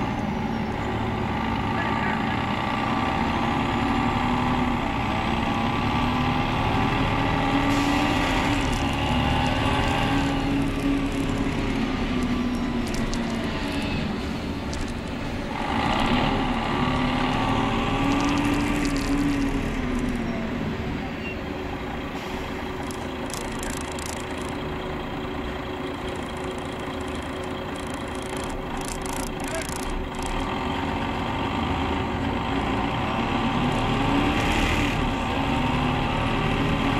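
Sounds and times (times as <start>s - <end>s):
bus engine droning: 0.0s - 36.9s.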